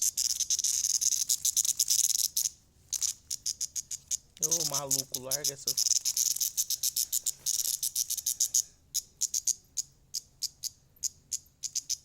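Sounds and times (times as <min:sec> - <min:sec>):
cicada buzzing and clicking: 0:00.0 - 0:12.0.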